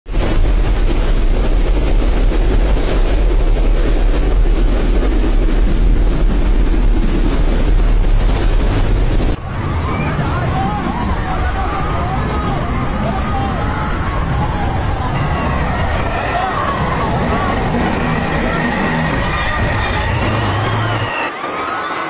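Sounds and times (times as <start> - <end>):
strong storm wind: 0.0 - 22.0
wind buffeting microphone: 0.1 - 21.2
heavy rain: 0.1 - 22.0.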